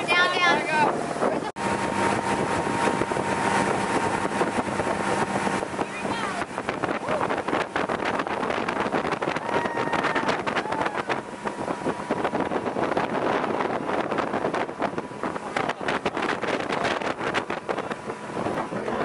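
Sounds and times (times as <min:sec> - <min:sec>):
motorboat engine and water rush: 0:00.0 - 0:19.0
wind buffeting microphone: 0:00.0 - 0:19.0.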